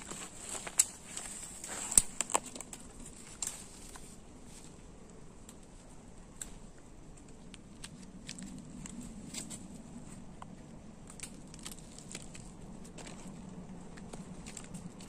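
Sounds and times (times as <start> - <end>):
dry leaves crackling: 0.0 - 4.9, 7.2 - 15.0
light steady hiss: 0.0 - 15.0.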